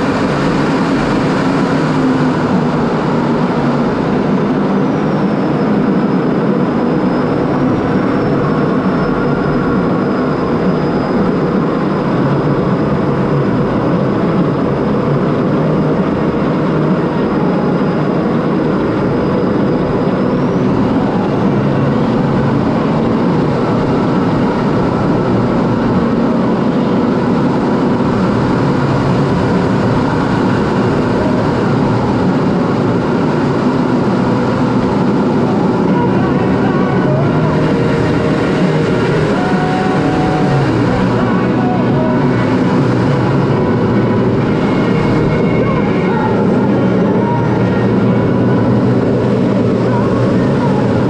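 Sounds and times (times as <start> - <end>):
jet engine running: 0.0 - 51.0.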